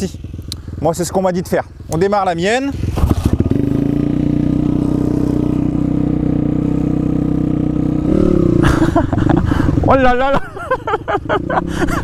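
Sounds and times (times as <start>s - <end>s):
motorbike engine idling and revving: 0.0s - 12.0s.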